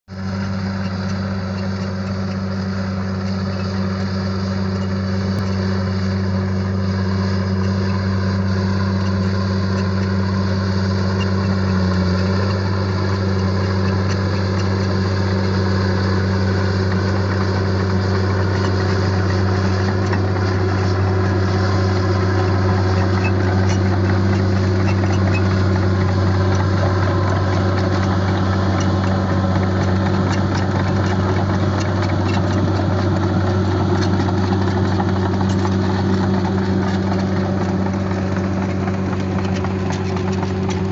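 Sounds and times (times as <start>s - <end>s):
construction machine engine hum: 0.0s - 40.9s.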